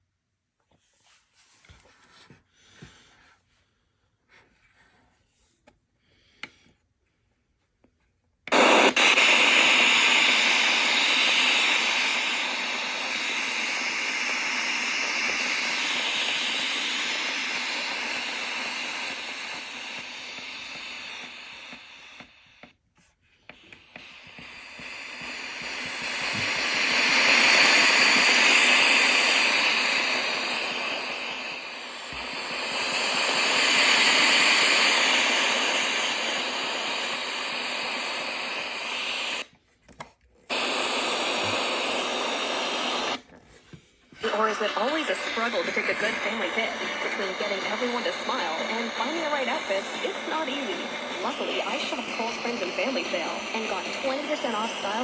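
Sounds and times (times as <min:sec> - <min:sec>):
radio static hiss: 0:08.5 - 0:22.8, 0:23.4 - 0:39.5, 0:40.5 - 0:55.0.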